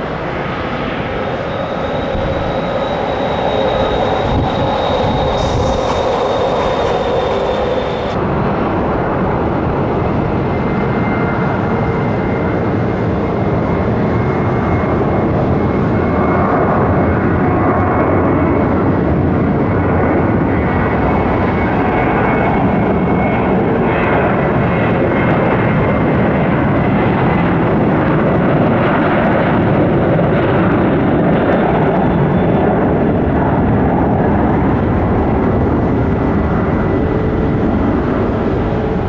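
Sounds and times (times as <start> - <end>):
jet engines at take-off thrust: 0.0 - 39.0.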